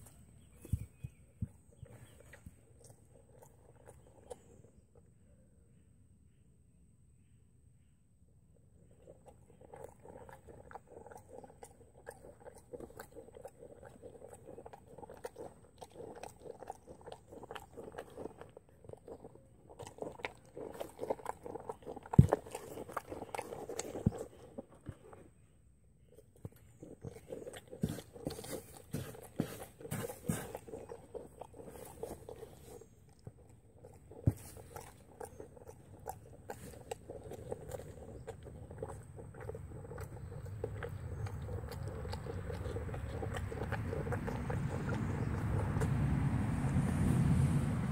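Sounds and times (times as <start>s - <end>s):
horse crunching feed: 0.0s - 4.9s, 8.8s - 25.4s, 26.1s - 47.9s.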